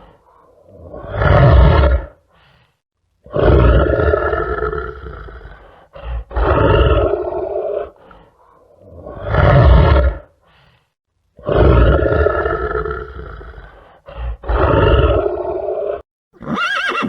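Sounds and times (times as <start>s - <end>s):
big cat grunt: 0.0s - 2.2s, 3.3s - 10.3s, 11.4s - 16.0s
big cat roaring: 0.0s - 2.2s, 3.2s - 10.3s, 11.4s - 16.0s.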